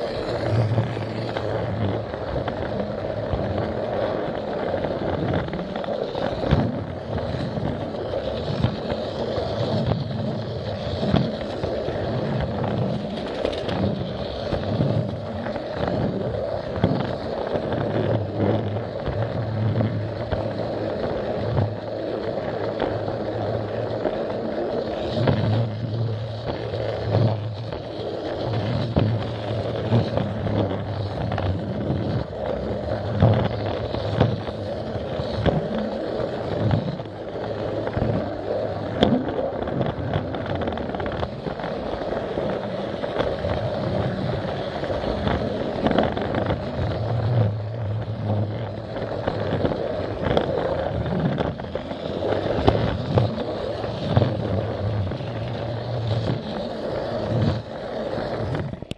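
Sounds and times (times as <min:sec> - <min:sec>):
toy train motor running: 0:00.0 - 0:05.0, 0:05.6 - 0:58.9
wheels rattling over track: 0:00.0 - 0:58.9.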